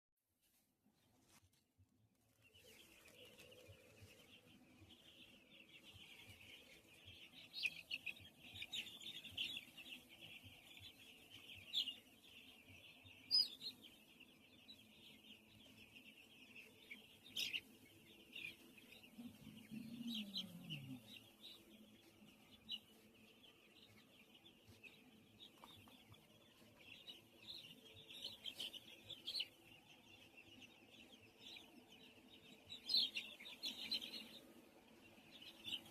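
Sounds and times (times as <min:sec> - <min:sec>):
chicks peeping: 0:01.0 - 0:35.9.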